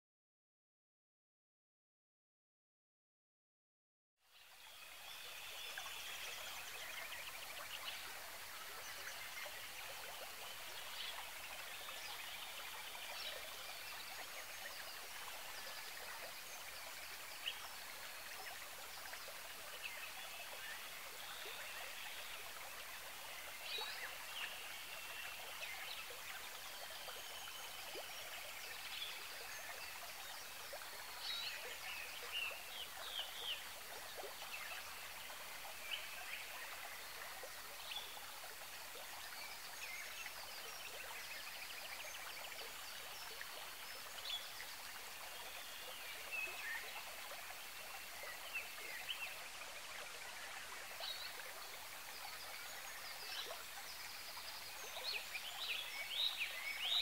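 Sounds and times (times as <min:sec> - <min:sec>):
running water: 0:04.4 - 0:57.0.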